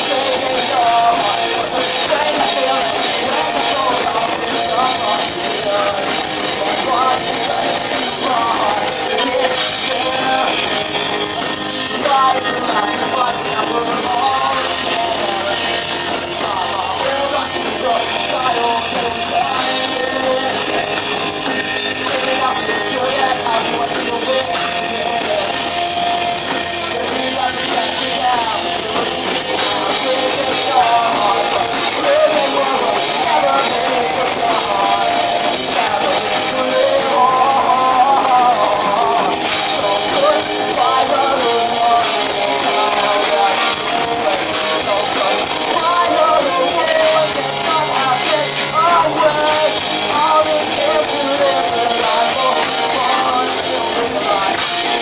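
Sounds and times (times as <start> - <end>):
drum kit: 0.0 - 55.0
electric bass: 0.0 - 55.0
electric guitars: 0.0 - 55.0
person singing: 0.0 - 55.0.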